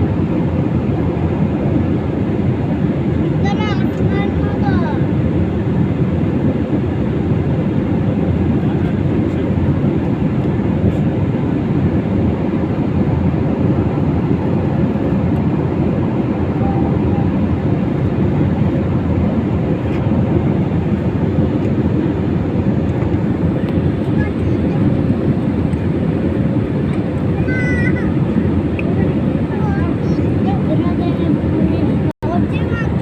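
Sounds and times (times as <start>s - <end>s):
airliner cabin jet engine rumble: 0.0s - 33.0s.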